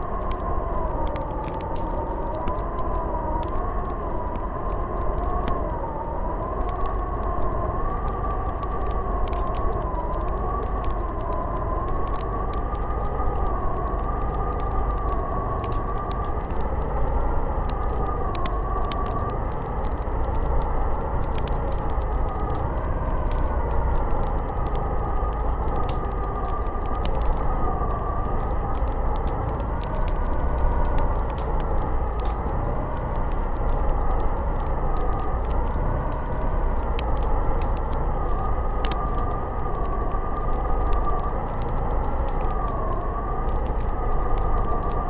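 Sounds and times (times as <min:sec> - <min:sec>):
small crackling ticks: 0:00.0 - 0:45.0
wind howling and whistling: 0:00.0 - 0:45.0.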